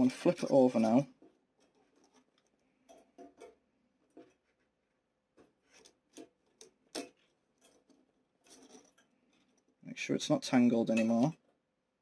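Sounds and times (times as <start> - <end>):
wires rubbing plastic: 0.1 - 9.9.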